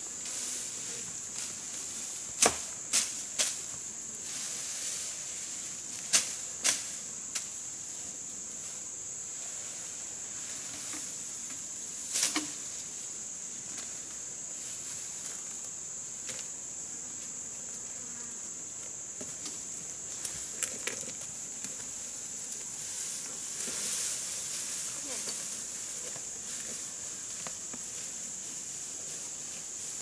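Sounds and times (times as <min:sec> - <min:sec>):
insects buzzing: 0:00.0 - 0:30.0.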